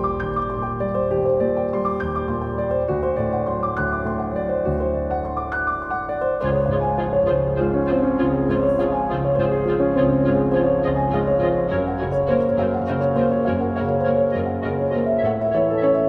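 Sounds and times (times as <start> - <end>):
piano melody with steady beat: 0.0 - 16.0.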